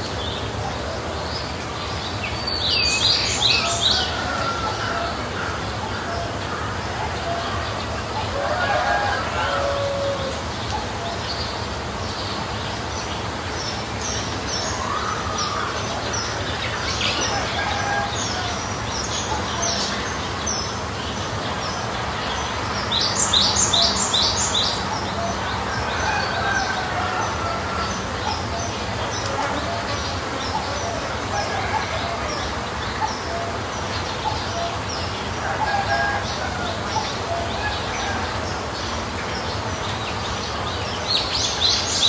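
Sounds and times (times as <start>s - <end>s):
outdoor background noise: 0.0s - 42.0s.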